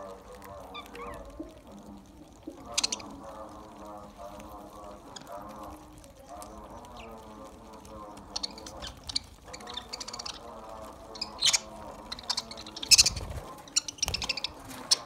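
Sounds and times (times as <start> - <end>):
birds pecking clicks: 0.0 - 15.0
budgerigar chatter: 0.0 - 15.0
budgerigars chirping: 0.6 - 1.6, 2.4 - 15.0.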